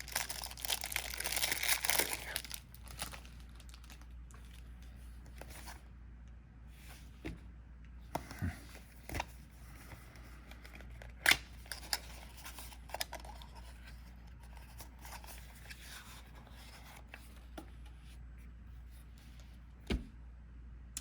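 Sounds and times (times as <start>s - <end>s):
rustling of wrap and cards: 0.0s - 5.9s, 8.2s - 19.8s.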